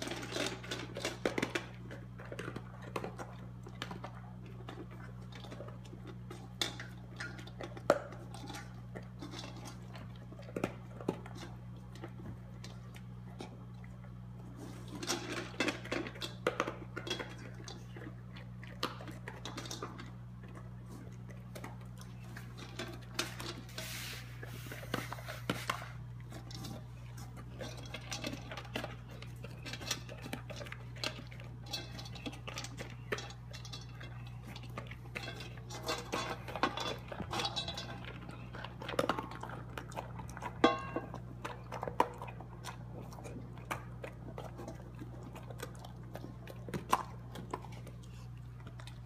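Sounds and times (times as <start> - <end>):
dog chewing bone in metal bowl: 0.0 - 49.0
steady low hum: 0.0 - 49.0.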